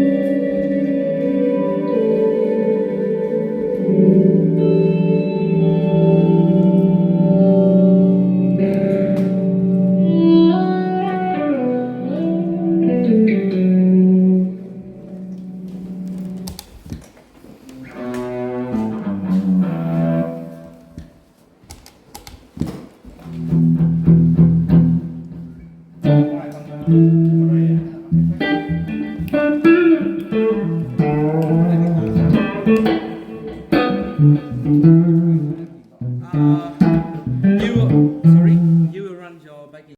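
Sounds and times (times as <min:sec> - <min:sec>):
electric guitar lead notes: 0:00.0 - 0:21.2, 0:23.3 - 0:38.9.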